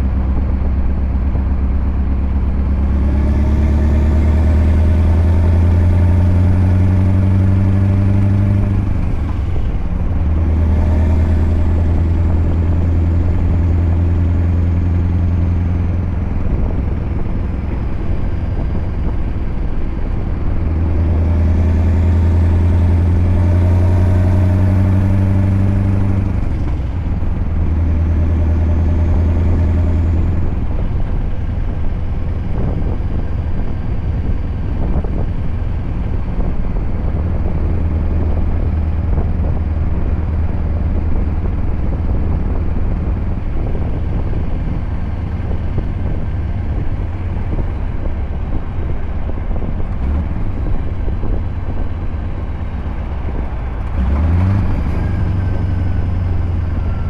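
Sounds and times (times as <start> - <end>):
truck diesel engine deep rumble: 0.0 - 57.0.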